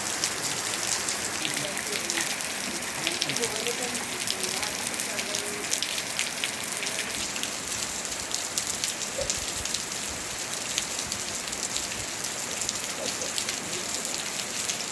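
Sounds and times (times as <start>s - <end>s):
steady rain pattering: 0.0s - 14.9s.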